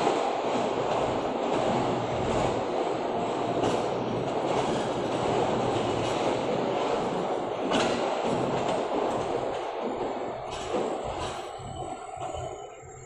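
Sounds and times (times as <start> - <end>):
faint rail clicks: 0.0 - 13.0
rail car wheels rumbling on rail: 0.0 - 13.0.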